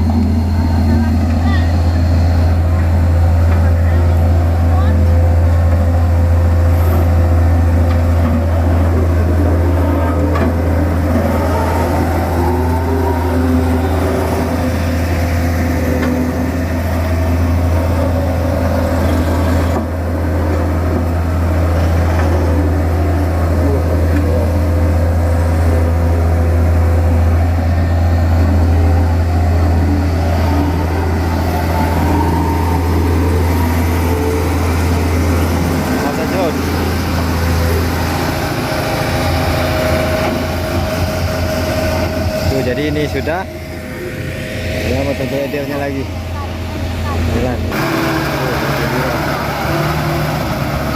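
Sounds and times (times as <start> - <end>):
constant tone: 0.0 - 47.8
diesel machinery engine drone: 0.0 - 50.9.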